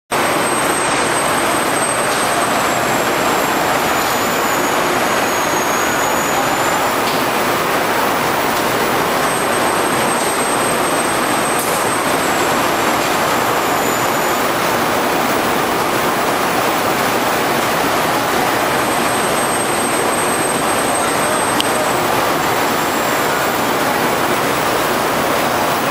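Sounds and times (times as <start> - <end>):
faint high whine: 0.2 - 25.9
machinery and steam rushing: 0.2 - 25.9.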